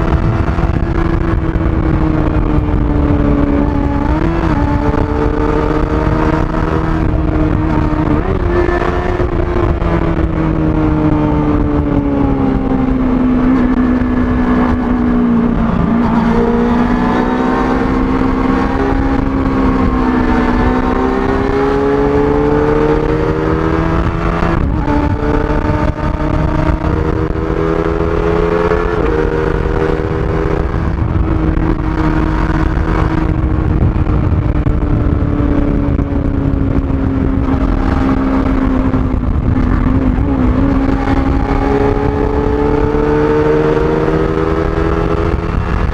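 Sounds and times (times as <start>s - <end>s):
motorcycle engine at high revs: 0.0s - 45.9s
wind rumble: 0.0s - 45.9s.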